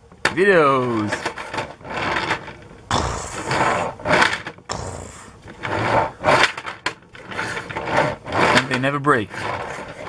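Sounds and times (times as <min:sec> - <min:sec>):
plastic toy wheels rolling on tabletop: 0:00.1 - 0:10.0.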